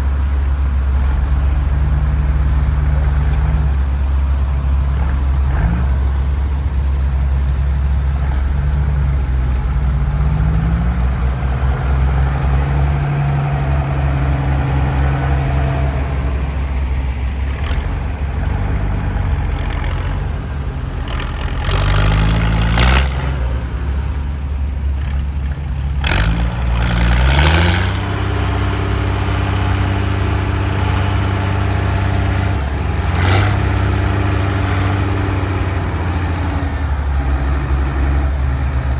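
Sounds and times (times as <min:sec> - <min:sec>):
tractor diesel exhaust under load: 0:00.0 - 0:38.9.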